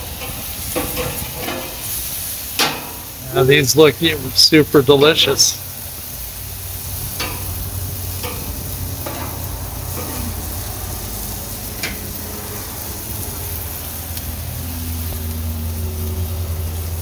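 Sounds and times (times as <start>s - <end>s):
chicken wings sizzling on grill: 0.0s - 17.0s.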